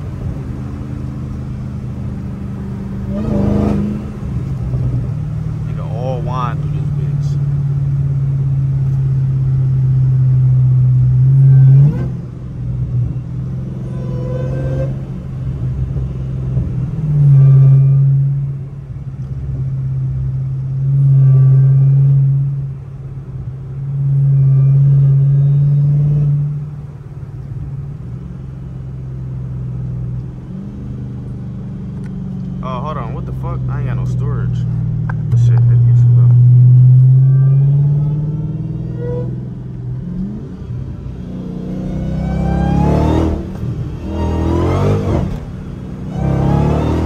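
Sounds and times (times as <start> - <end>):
car exhaust drone: 0.0 - 47.0.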